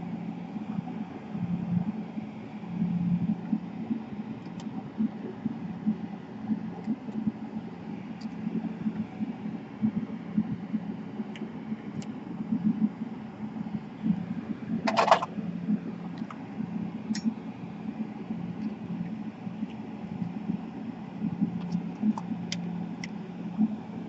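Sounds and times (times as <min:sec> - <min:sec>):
low throbbing hum: 0:00.0 - 0:24.0.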